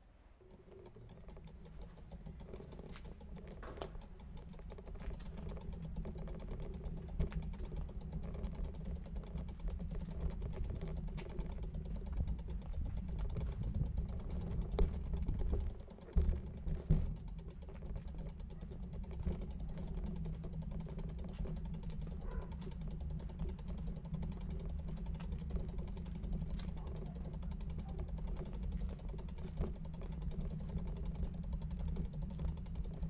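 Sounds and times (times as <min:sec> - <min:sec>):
bicycle rolling over tiles: 0:00.4 - 0:33.0.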